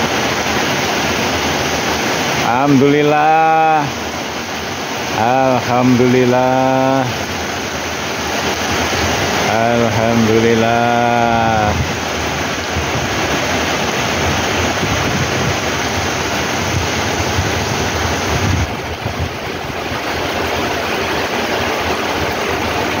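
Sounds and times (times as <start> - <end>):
heavy rain on pavement: 0.0 - 23.0.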